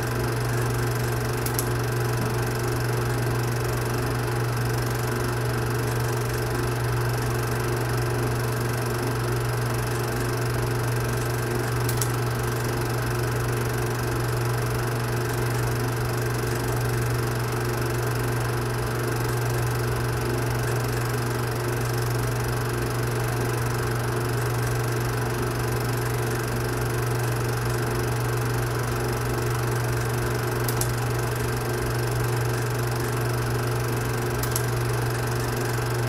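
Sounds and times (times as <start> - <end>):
film projector whirring: 0.0 - 36.0.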